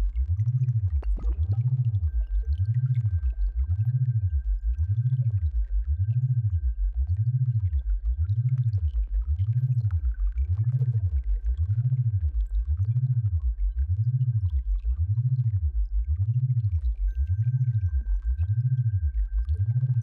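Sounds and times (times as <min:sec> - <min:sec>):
warbling low electronic hum: 0:00.0 - 0:20.0.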